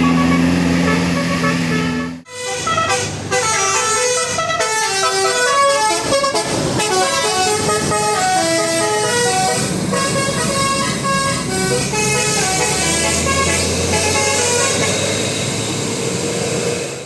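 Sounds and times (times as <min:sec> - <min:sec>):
bus multi-tone air horn tune: 0:00.0 - 0:15.3.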